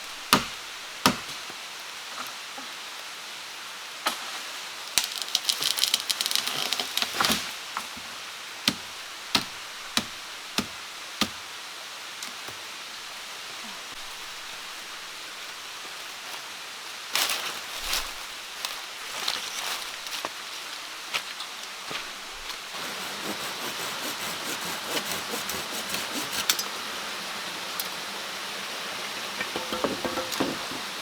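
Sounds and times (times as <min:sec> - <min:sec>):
rustle: 0:00.0 - 0:31.0
soft hiss: 0:00.0 - 0:31.0.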